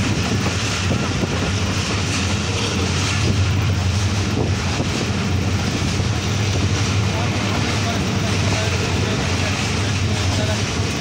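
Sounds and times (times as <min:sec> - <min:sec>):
rushing air: 0:00.0 - 0:11.0
train wheels rumbling on rails: 0:00.0 - 0:11.0.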